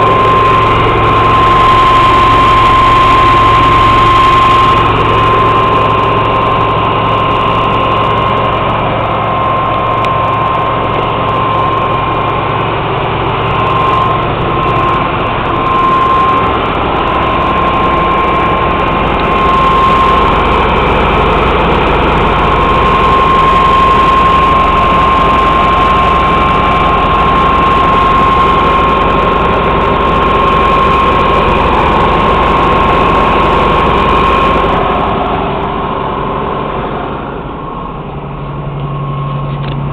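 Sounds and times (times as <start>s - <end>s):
high-pitched whine: 0.0s - 39.9s
truck engine running: 0.0s - 39.9s.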